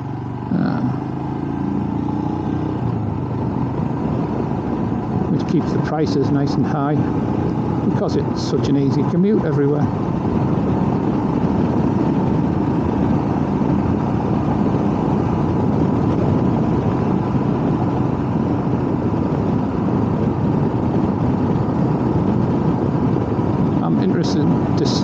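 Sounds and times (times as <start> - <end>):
motorcycle engine drone: 0.0 - 25.0
road and wind noise: 0.0 - 25.0.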